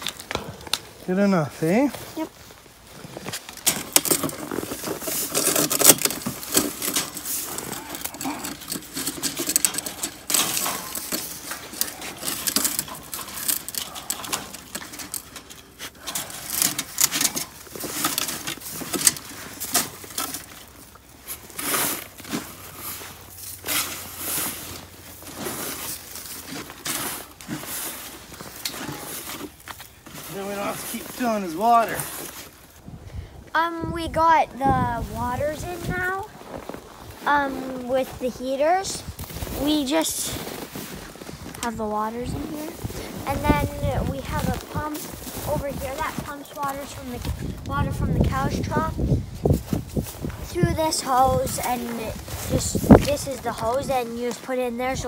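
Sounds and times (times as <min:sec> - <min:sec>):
buckets knocking and scraping: 0:03.2 - 0:32.6, 0:37.3 - 0:55.0.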